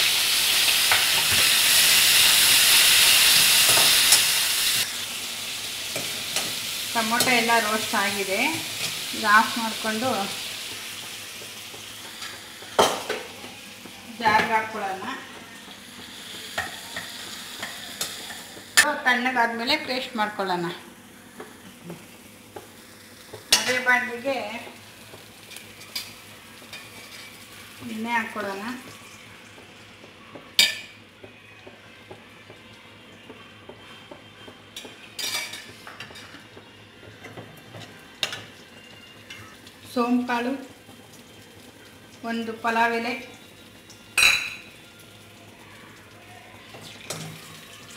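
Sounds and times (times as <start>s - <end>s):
steady kitchen hiss: 0.0s - 47.9s.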